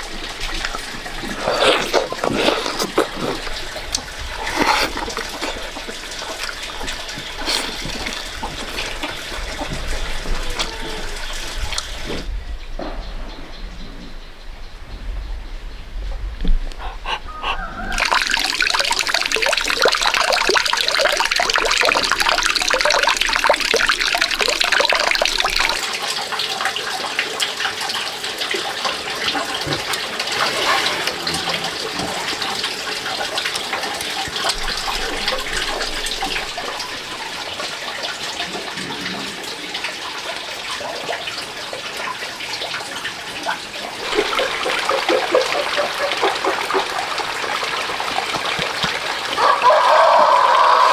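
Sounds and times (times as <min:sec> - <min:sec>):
water running and splashing: 0:00.0 - 0:12.3, 0:16.7 - 0:50.9.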